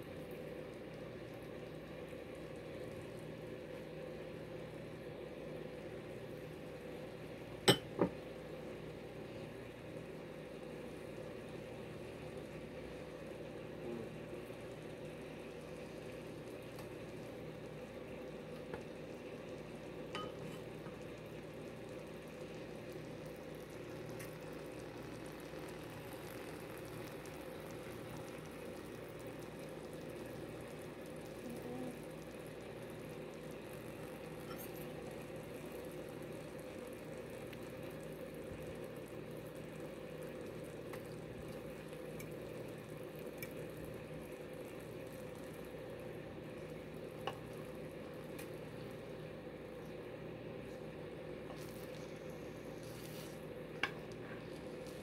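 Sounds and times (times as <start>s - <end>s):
egg frying sizzle: 0.0s - 55.0s.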